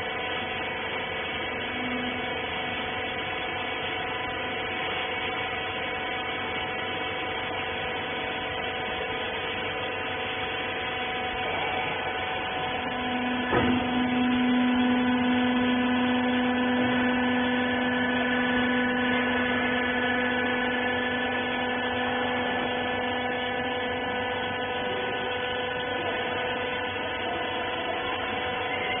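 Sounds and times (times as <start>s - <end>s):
motor and pump hum with whine: 0.0s - 29.0s.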